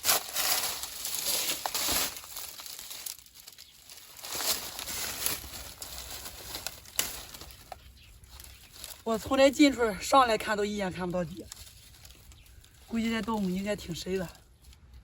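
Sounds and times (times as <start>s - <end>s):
dry rustling and crunching: 0.0s - 15.0s.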